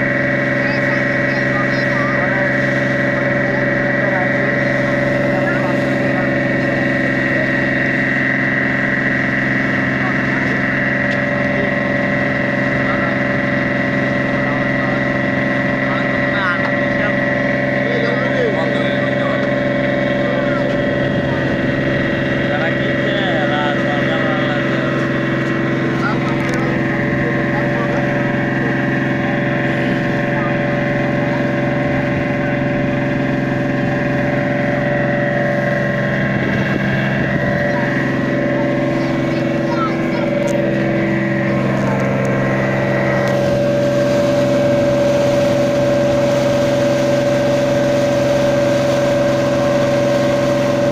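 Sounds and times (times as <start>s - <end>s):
boat engine droning: 0.0s - 50.9s
faint voices: 0.0s - 50.9s.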